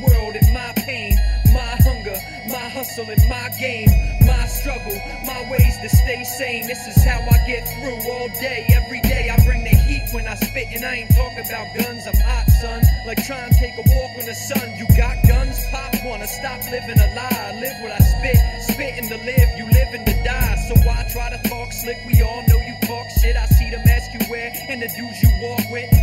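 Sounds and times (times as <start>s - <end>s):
deep kick drums: 0.0s - 2.2s, 3.2s - 6.2s, 7.0s - 14.1s, 14.9s - 17.4s, 18.0s - 24.2s, 25.2s - 26.0s
rapid hi-hats: 0.0s - 26.0s
rapping over a beat: 0.0s - 26.0s.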